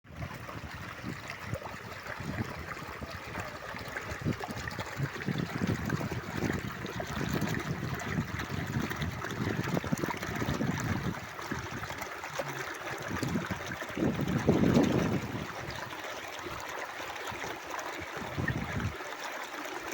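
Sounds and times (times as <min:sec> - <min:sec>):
stream water running: 0:00.1 - 0:19.9.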